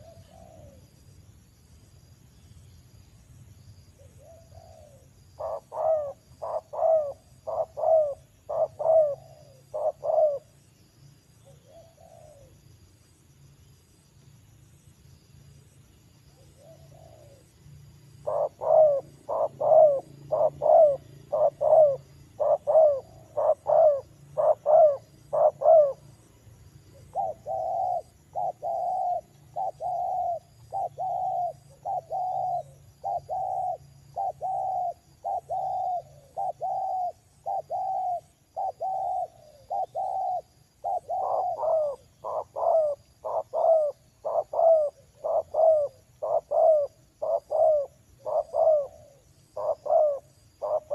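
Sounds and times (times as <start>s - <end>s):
dove cooing: 0.0s - 0.9s, 4.0s - 10.6s, 11.4s - 12.6s, 16.4s - 17.5s, 18.2s - 26.2s, 26.9s - 50.9s.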